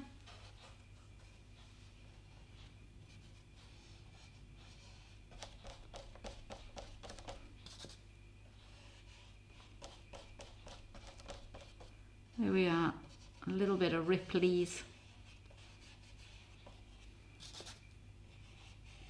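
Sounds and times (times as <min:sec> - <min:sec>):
low steady hum: 0:00.0 - 0:19.0
paintbrush strokes on paper: 0:00.2 - 0:11.9, 0:12.9 - 0:19.0.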